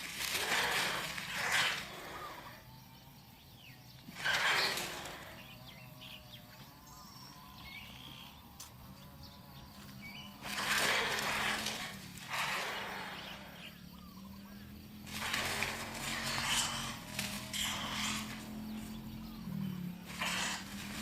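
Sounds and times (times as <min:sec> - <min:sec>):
harsh raspy bird calls: 0:00.0 - 0:21.0.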